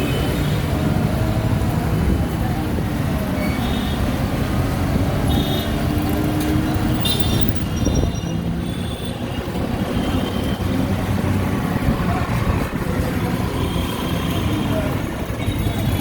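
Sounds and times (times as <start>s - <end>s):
road rumble: 0.0s - 16.0s.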